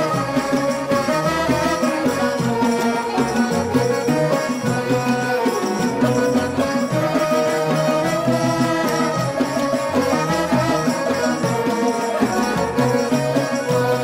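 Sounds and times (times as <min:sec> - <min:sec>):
instrumental folk music: 0:00.0 - 0:14.0.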